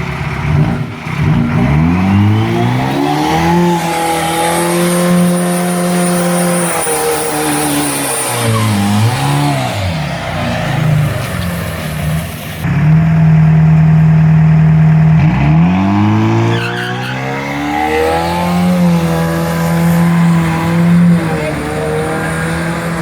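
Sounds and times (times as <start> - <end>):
loud diesel engine revving: 0.0 - 23.0.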